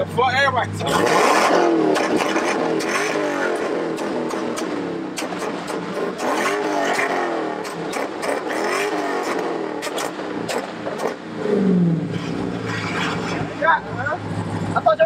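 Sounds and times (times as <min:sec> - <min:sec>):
car engine revving: 0:00.0 - 0:15.0
exhaust crackles: 0:00.0 - 0:15.0.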